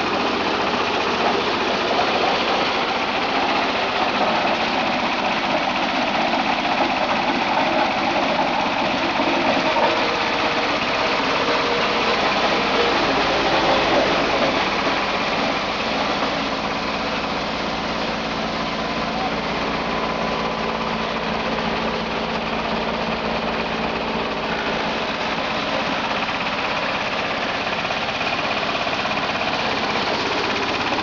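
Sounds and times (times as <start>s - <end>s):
wood shredder machine drone: 0.0s - 31.0s.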